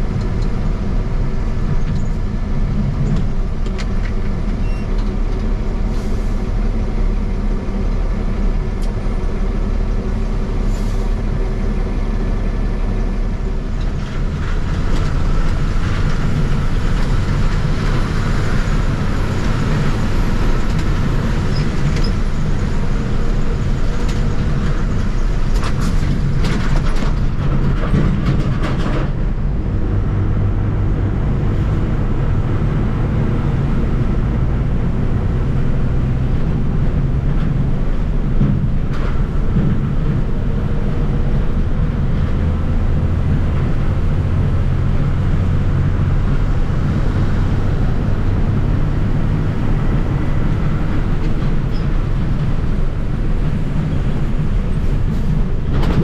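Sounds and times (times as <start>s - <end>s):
road rumble: 0.0s - 56.0s
truck engine drone: 0.0s - 56.0s.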